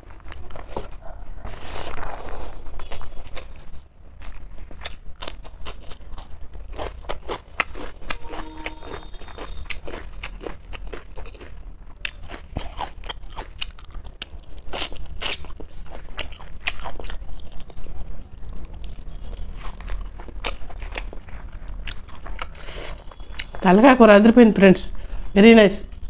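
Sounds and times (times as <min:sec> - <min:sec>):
person chewing with crunches: 0:00.0 - 0:23.6.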